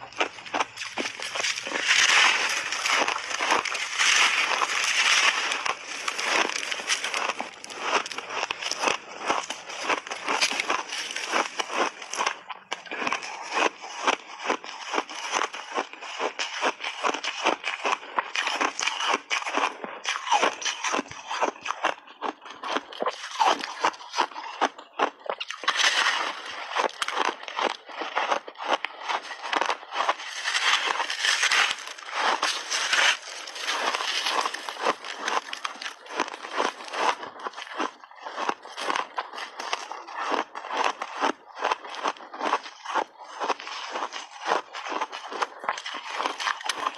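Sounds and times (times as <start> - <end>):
ice being chewed: 0.0 - 46.9.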